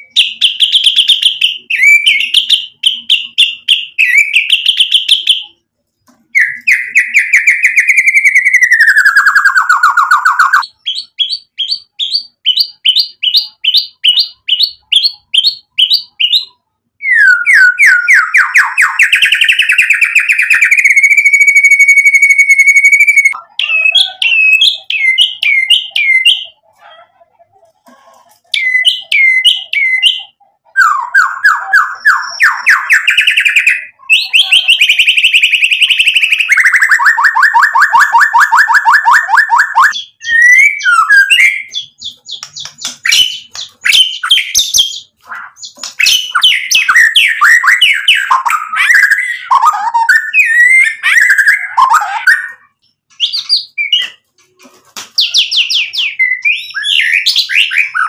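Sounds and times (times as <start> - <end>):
bird singing varied phrases: 0.0 - 5.6, 6.2 - 26.6, 28.5 - 54.3, 55.2 - 58.0.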